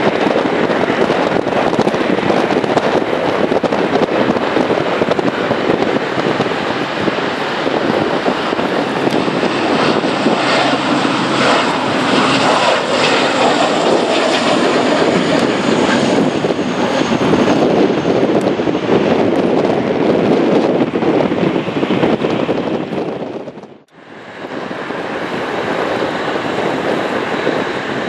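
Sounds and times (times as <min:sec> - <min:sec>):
turboprop airliner taking off: 0:00.0 - 0:28.0.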